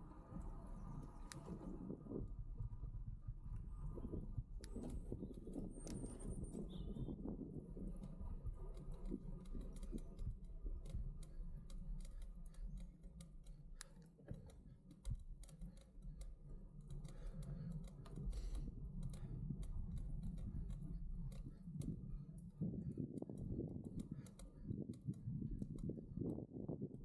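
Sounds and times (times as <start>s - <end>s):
tyre and wind rumble: 0.0s - 13.3s, 14.3s - 27.0s
bike clicks and rattles: 0.3s - 27.0s.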